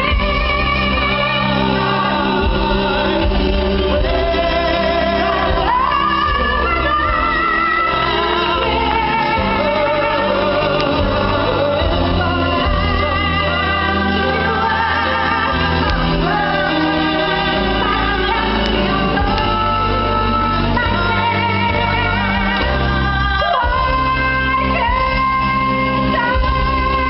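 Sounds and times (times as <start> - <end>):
band accompaniment: 0.0 - 27.0
person singing with vibrato: 0.0 - 27.0.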